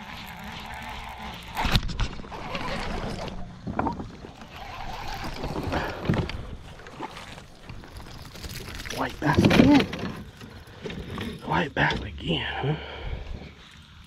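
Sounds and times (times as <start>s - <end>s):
rough water: 0.0s - 14.0s.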